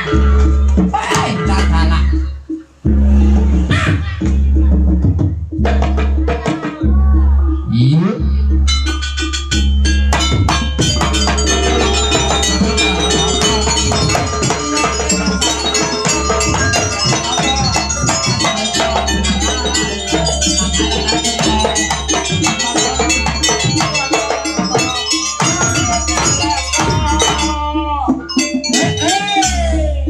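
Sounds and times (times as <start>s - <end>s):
gamelan ensemble playing: 0.0s - 30.0s.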